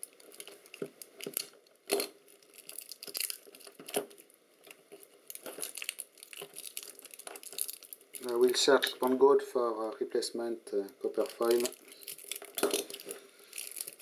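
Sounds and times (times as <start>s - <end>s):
copper foil crinkling and tearing: 0.0s - 9.0s, 11.0s - 14.0s.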